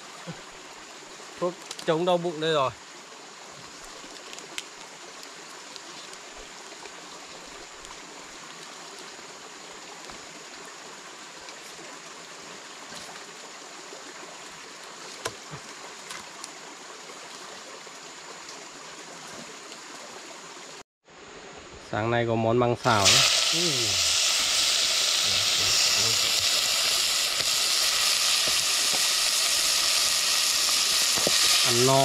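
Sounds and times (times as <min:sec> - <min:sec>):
stream flowing: 0:00.0 - 0:21.6, 0:22.8 - 0:32.0.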